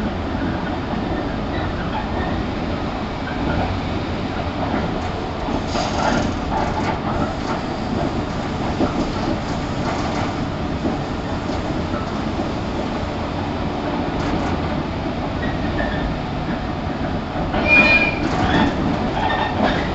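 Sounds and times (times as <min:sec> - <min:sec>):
train wheels rumbling on rails: 0:00.0 - 0:19.9.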